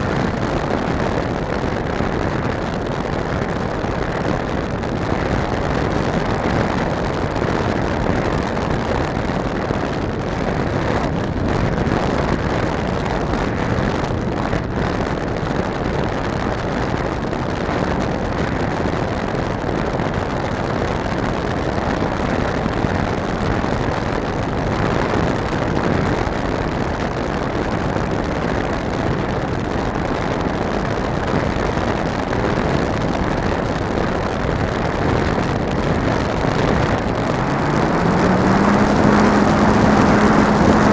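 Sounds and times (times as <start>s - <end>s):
wind rushing over camera: 0.0s - 40.9s.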